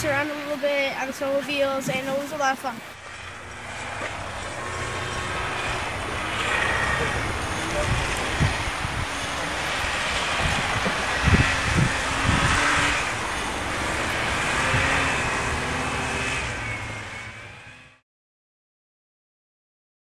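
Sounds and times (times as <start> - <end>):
snowmobile engine whine: 0.0 - 18.0.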